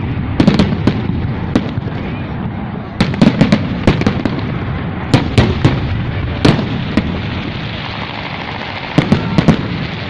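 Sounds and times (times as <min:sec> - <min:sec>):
firework bangs: 0:00.0 - 0:10.0
rumble and crackle of fireworks: 0:00.0 - 0:10.0.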